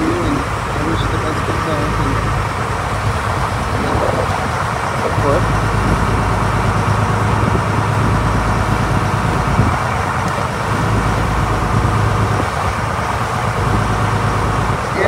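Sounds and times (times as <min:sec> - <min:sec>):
boat engine droning: 0:00.0 - 0:15.0
rushing water wake: 0:00.0 - 0:15.0
wind: 0:00.0 - 0:15.0.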